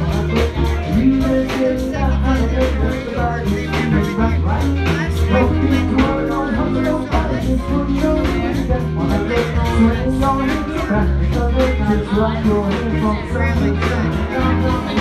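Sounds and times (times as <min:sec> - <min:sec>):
brass funk band playing: 0:00.0 - 0:15.0.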